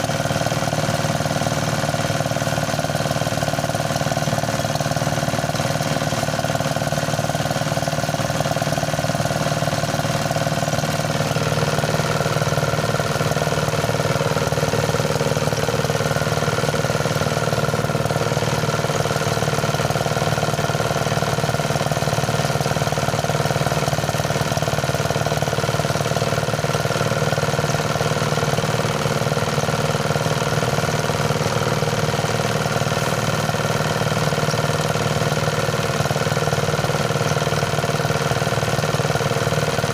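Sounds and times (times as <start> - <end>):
engine-driven thresher running: 0.0 - 39.9.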